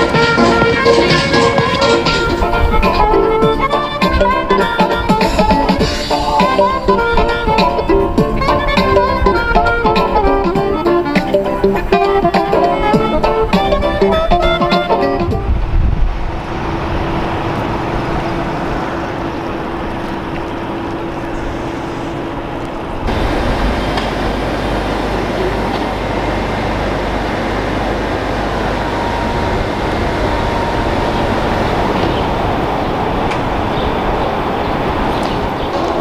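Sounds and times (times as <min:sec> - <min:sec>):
deep traffic rumble: 0:00.0 - 0:36.0
steady hum: 0:00.0 - 0:36.0
traffic engine and road noise: 0:00.0 - 0:36.0.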